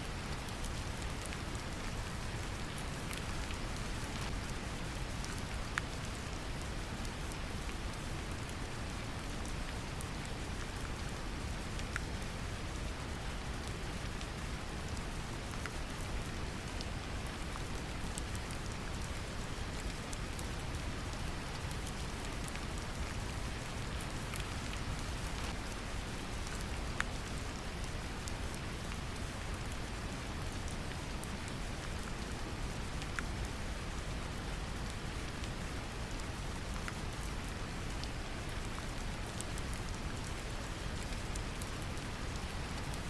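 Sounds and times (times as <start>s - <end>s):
rain pattering: 0.1s - 43.0s.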